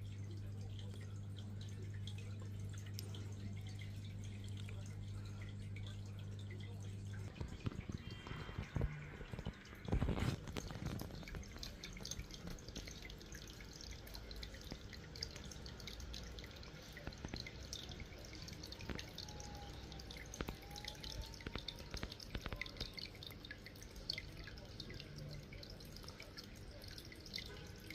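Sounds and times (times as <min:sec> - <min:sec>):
water trickling into aquarium: 0:00.0 - 0:27.9.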